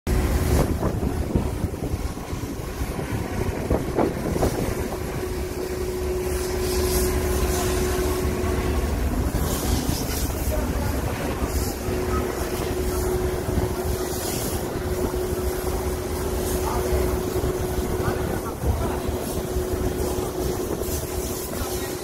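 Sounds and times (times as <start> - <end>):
ship engines rumbling: 0.1 - 22.0
wind buffeting microphone: 0.1 - 22.0.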